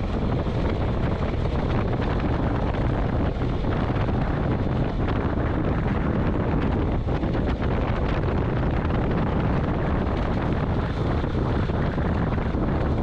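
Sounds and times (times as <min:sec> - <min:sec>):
vehicle road and engine noise: 0:00.0 - 0:13.0
wind buffeting microphone: 0:00.0 - 0:13.0.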